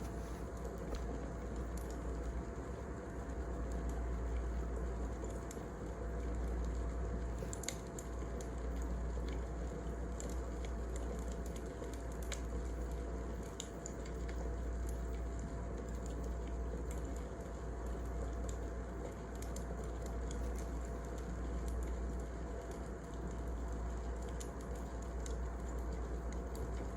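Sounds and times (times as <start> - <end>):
fire crackles and pops: 0.0 - 26.9
wood fire rumbling: 0.0 - 26.9.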